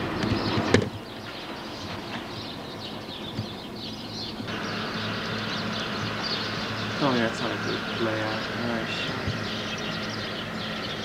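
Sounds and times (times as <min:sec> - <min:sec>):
small birds chirping faintly: 0:00.0 - 0:11.0
subway train rumble: 0:01.0 - 0:11.0.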